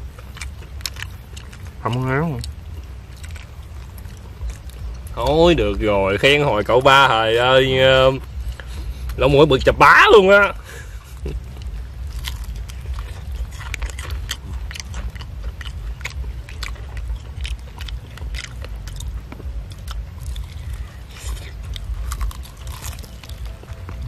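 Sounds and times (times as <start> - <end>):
crunchy chewing of fried chicken: 0.0 - 24.0
steady low rumble: 0.0 - 24.0.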